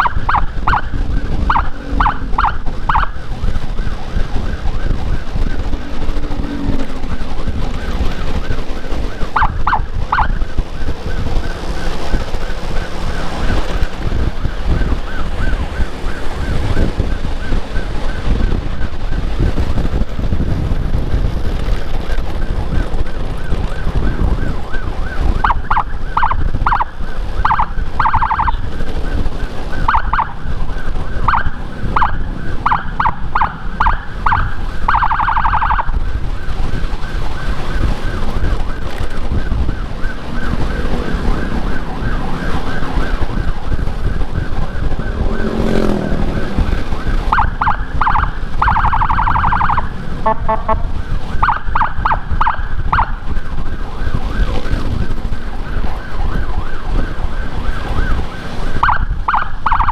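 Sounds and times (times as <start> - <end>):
electronic siren bursts: 0.0 - 20.5, 22.3 - 59.9
wind rush on microphone: 0.0 - 59.9.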